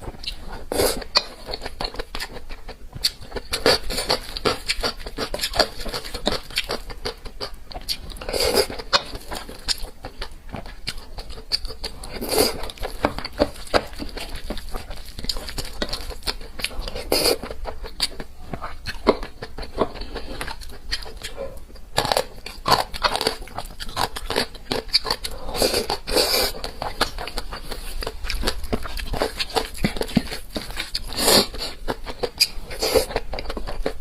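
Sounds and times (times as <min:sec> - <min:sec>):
person chewing food: 0:00.0 - 0:34.0.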